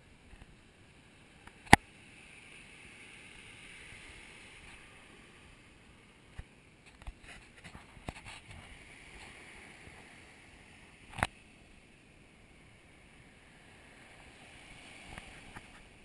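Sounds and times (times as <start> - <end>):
gentle surf and breeze: 0.0 - 16.0.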